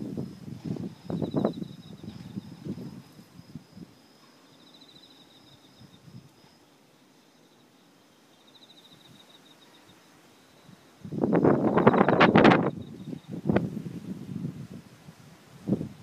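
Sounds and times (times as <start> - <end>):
crickets chirping: 0.0 - 16.0
high insect trill: 0.0 - 16.0.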